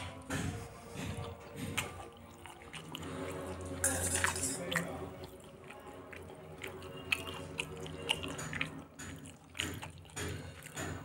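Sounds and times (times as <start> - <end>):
kittens chewing wetly: 0.0 - 11.0.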